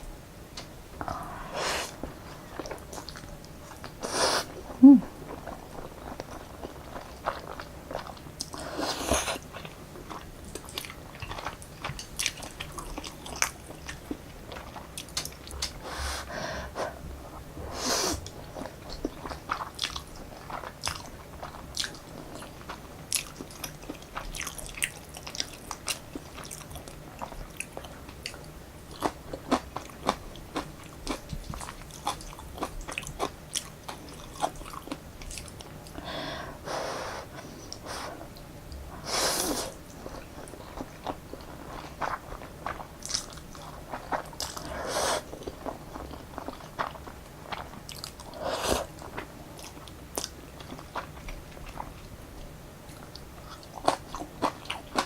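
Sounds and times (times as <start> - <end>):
chewing with wet clicks: 2.6 - 4.0, 5.2 - 8.6, 9.3 - 15.8, 18.2 - 36.0, 39.9 - 55.0.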